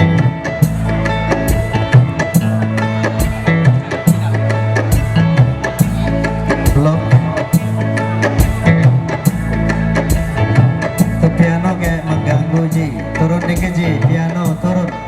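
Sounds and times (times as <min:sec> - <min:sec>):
bass line of low notes: 0:00.0 - 0:15.0
drum kit beat: 0:00.0 - 0:15.0
live band playing: 0:00.0 - 0:15.0.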